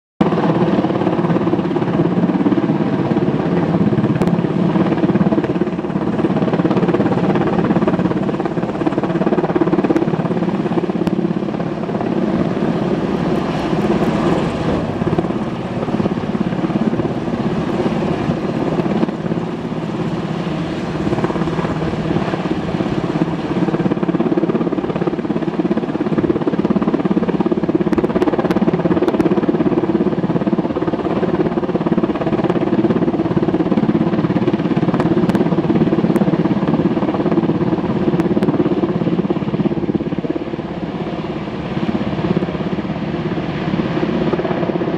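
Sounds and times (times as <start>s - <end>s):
helicopter hovering: 0.2s - 44.9s.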